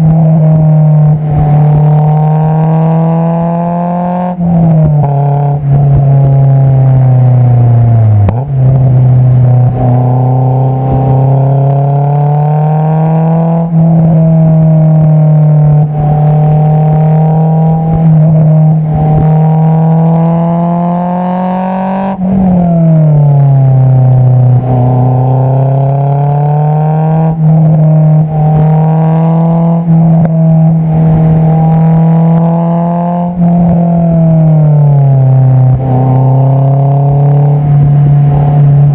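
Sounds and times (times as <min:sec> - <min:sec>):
car engine revving while driving: 0:00.0 - 0:38.9.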